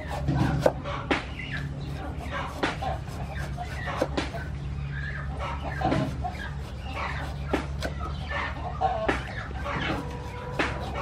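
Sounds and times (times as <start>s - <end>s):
cleaver cutting on wooden board: 0.0s - 4.5s, 5.6s - 11.0s
hens clucking: 0.0s - 11.0s.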